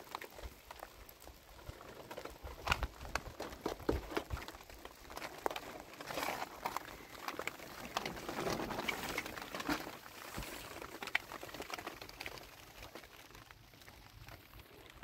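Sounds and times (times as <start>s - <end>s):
rain on plastic sheeting: 0.0s - 15.0s.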